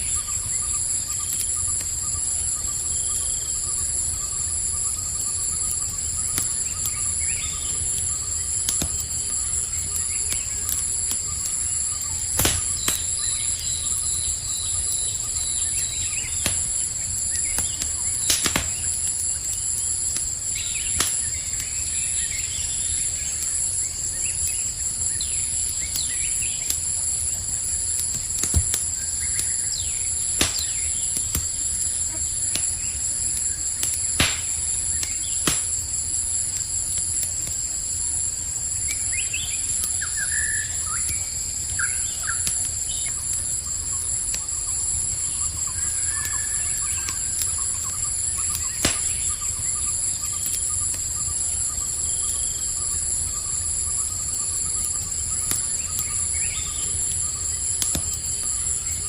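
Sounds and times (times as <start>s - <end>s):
campfire crackling: 0.0s - 59.0s
crickets chirring: 0.0s - 59.0s.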